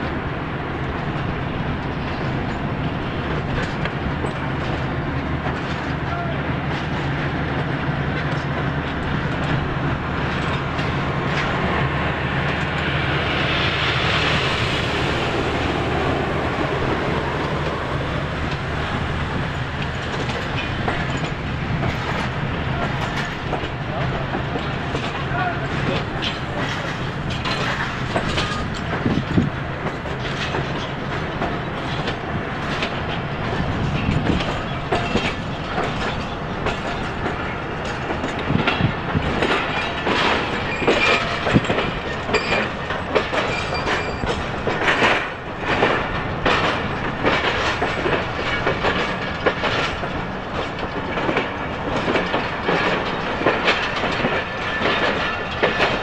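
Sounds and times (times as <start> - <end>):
train running rumble: 0.0 - 56.0
train wheels clacking over rail joints: 0.0 - 56.0.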